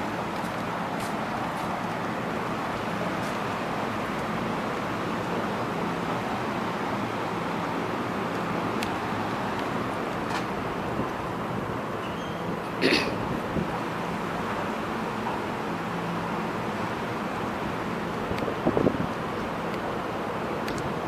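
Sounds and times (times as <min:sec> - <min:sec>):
station platform rumble and hiss: 0:00.0 - 0:21.0.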